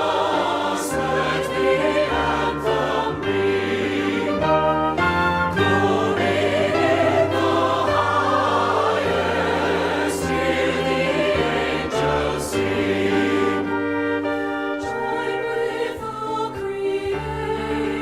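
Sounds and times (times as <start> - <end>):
choir singing a carol: 0.0 - 18.0
instrumental accompaniment: 0.0 - 18.0.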